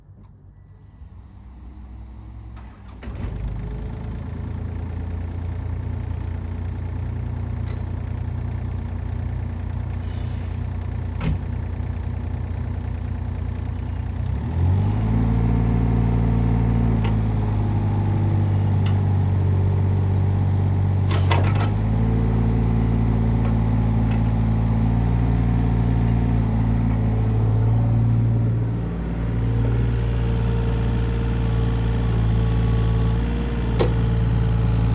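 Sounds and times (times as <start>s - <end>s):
excavator diesel engine running: 3.0s - 34.9s.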